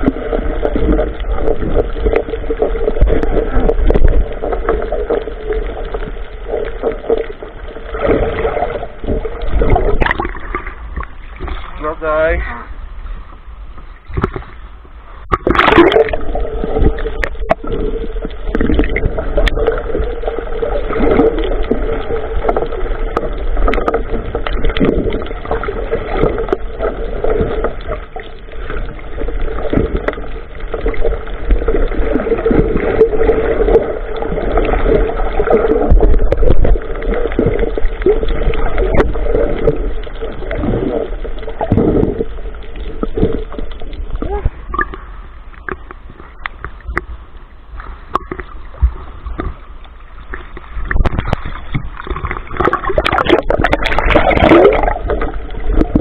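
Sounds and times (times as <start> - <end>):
water splashing around boat: 0.0 - 56.0.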